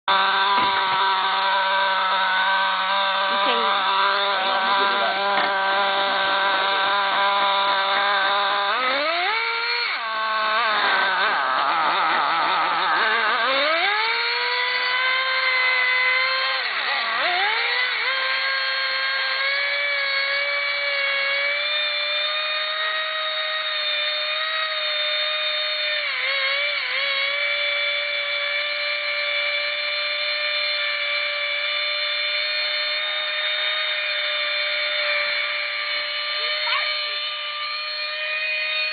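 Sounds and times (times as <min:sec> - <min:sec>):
radio-controlled car motor whine: 0:00.0 - 0:38.9.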